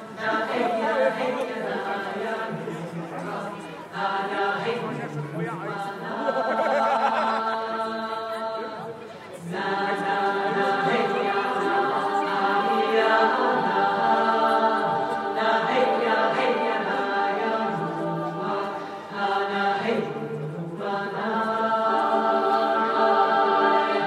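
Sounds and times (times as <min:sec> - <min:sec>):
choir holding chant-like notes: 0:00.0 - 0:24.0.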